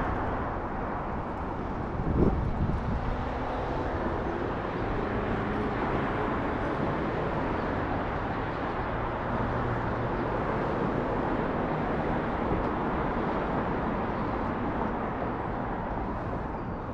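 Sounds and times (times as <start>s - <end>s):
car driving on road: 0.0s - 16.9s.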